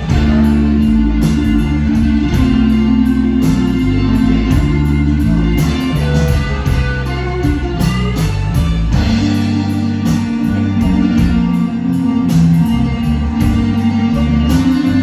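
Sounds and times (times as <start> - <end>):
electric guitar: 0.0 - 15.0
live blues band playing: 0.0 - 15.0.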